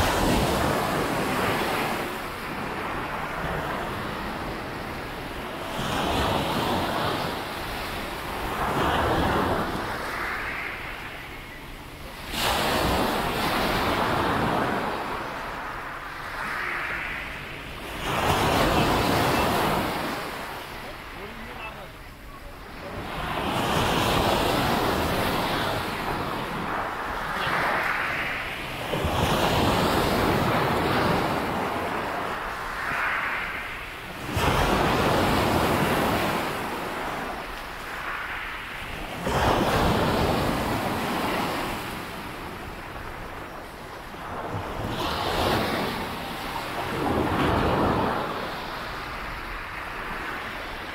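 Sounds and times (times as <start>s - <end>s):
sea waves breaking on beach: 0.0s - 50.9s.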